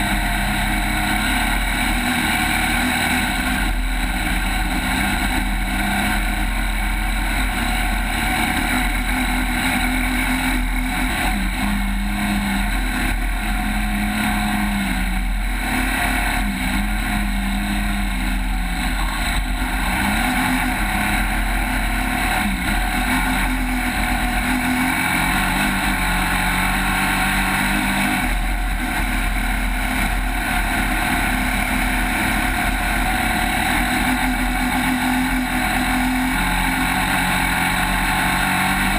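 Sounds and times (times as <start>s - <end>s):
race vehicle engine revving: 0.0s - 38.9s.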